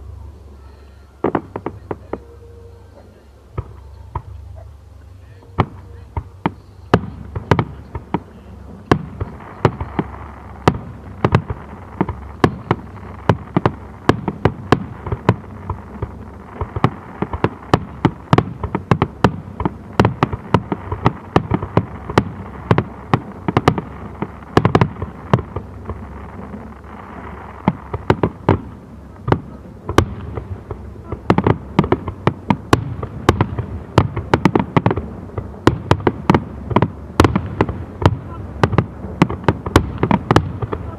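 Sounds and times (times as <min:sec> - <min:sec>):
firework rumble: 0:00.0 - 0:40.9.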